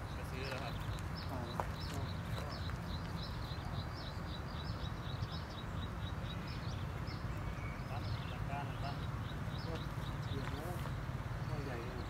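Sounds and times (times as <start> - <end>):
bird chirping rapidly: 0.0 - 12.0.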